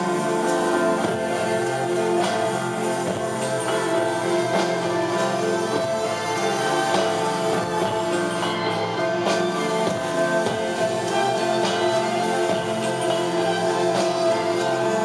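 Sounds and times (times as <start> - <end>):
bass guitar: 0.0 - 15.0
drums and cymbal hits: 0.0 - 15.0
keyboard chords: 0.0 - 15.0.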